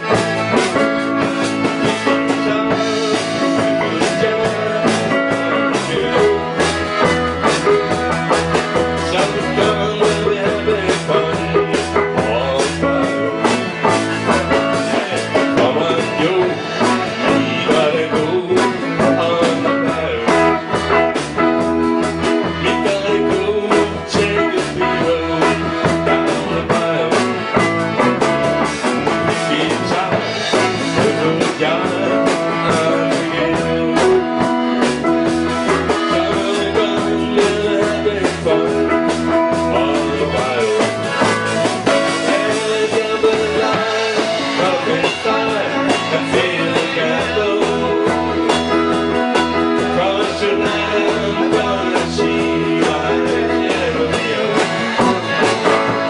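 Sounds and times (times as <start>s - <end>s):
live country rock band: 0.0s - 56.0s
steady drum beat: 0.0s - 56.0s.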